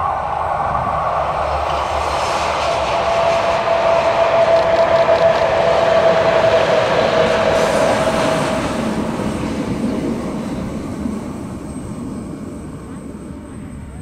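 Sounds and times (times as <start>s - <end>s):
electric railcars running past: 0.0s - 14.0s.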